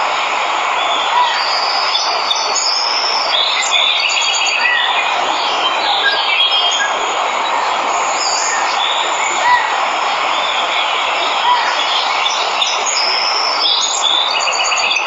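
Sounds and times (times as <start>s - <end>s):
waterfall rushing: 0.0s - 15.0s
birds chirping: 0.6s - 15.0s.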